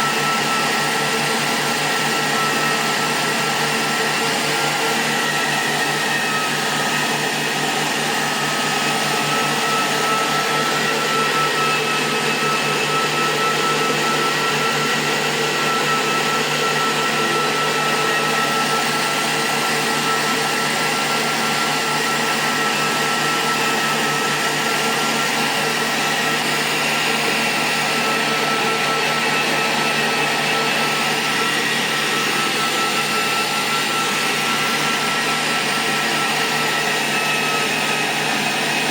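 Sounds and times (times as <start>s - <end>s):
constant high whine: 0.0s - 38.9s
power supply whirring: 0.0s - 38.9s.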